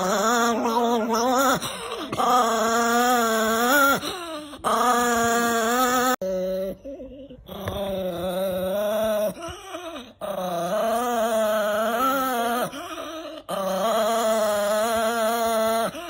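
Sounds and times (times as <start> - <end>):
small dog whine-growling: 0.0 - 16.0.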